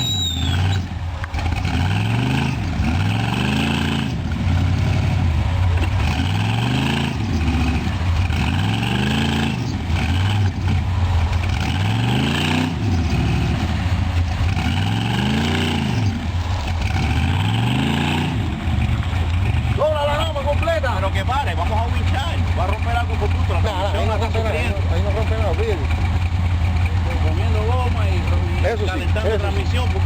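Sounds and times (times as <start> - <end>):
car engine revving: 0.0 - 30.0
tires spinning in mud: 0.0 - 30.0.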